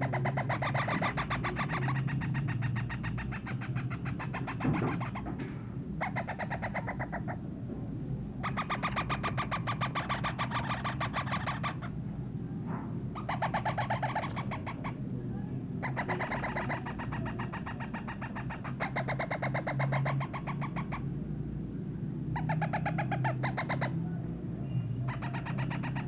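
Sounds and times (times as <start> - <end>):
parrot chick begging calls: 0.0 - 5.3, 6.0 - 7.4, 8.4 - 12.0, 13.1 - 15.0, 15.8 - 21.1, 22.4 - 26.0.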